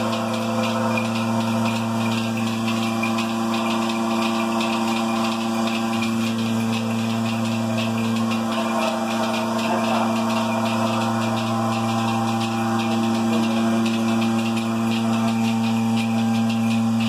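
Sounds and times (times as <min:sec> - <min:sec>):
vacuum pump hum: 0:00.0 - 0:17.0.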